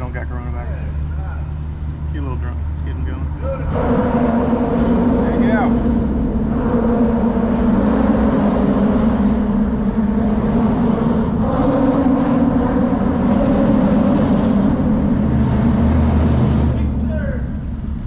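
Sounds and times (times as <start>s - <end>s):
tyres humming on steel grating: 0.0s - 17.8s
deep rumble: 0.0s - 18.0s.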